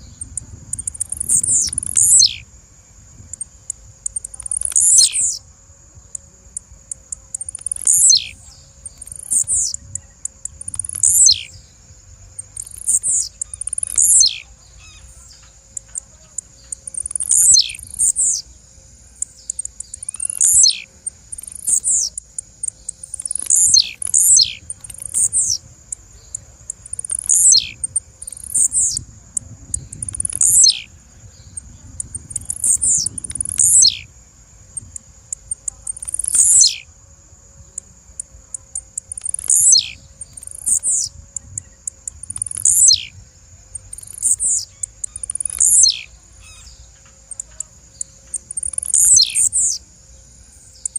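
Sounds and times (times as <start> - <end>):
bird calling: 0.0 - 2.5, 3.4 - 5.5, 6.9 - 11.6, 12.4 - 18.5, 19.1 - 29.0, 29.8 - 34.1, 34.8 - 36.9, 38.6 - 49.9
faint high whine: 0.0 - 50.9
high ticks: 0.2 - 2.5, 3.3 - 5.4, 6.1 - 11.6, 12.4 - 18.5, 19.2 - 30.9, 31.6 - 34.1, 34.7 - 36.9, 37.7 - 49.8.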